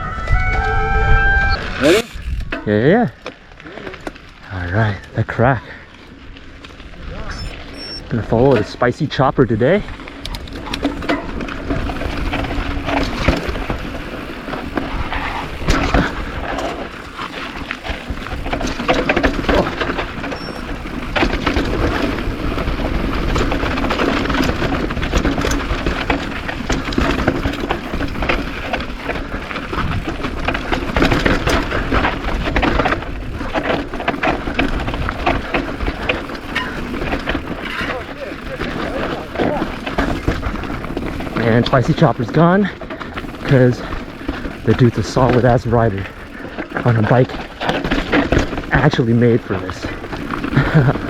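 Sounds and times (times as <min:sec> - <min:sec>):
bike rattling over bumps: 0:00.0 - 0:51.0
tires crunching over rock: 0:01.4 - 0:51.0.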